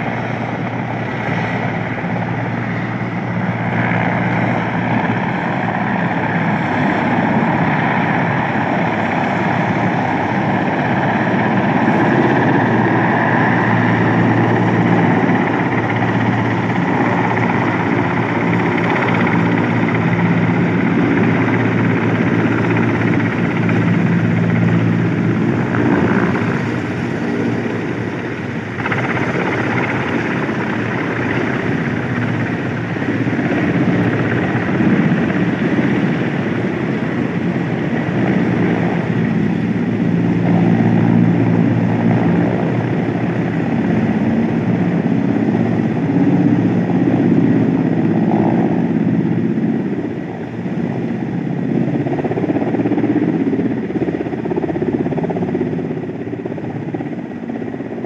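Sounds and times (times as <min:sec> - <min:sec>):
helicopter hovering and landing: 0:00.0 - 0:58.0.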